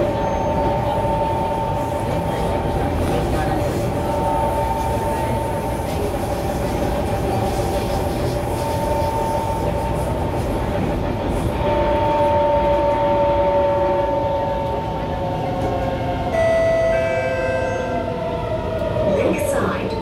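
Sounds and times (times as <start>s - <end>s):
wheels rumbling on track: 0.0s - 20.0s.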